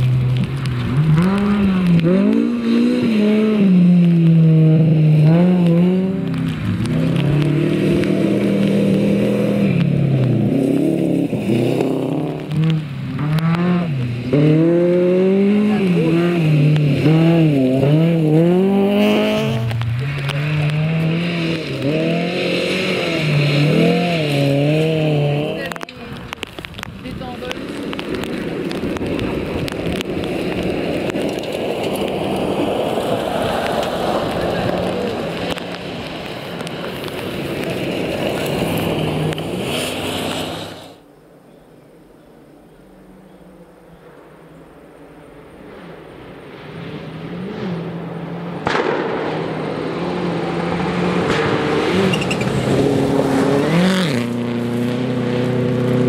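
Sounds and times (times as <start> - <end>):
rally car engine revving: 0.0 - 41.0, 44.1 - 56.0.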